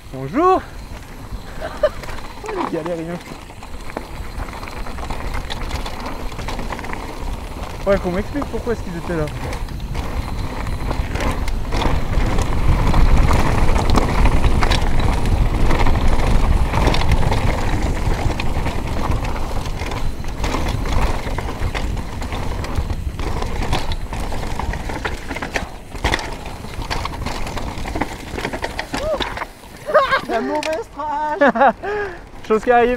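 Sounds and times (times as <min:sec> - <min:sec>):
rushing air rumble: 0:00.0 - 0:30.3
bike clicks and knocks: 0:00.0 - 0:32.9
bike tyres rolling on gravel: 0:00.0 - 0:32.9.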